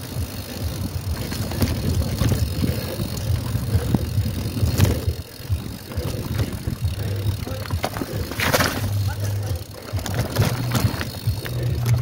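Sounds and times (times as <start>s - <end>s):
bike rattling and knocking: 0.0s - 12.0s
bike tyres rumbling on trail: 0.0s - 12.0s.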